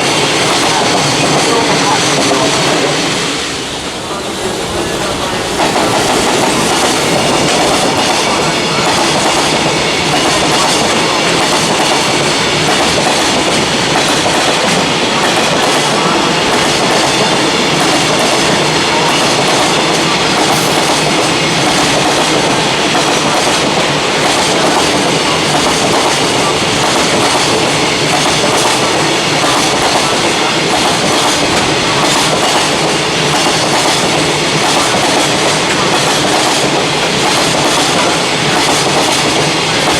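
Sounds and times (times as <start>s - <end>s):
freight train wheels rolling on rails: 0.0s - 39.9s.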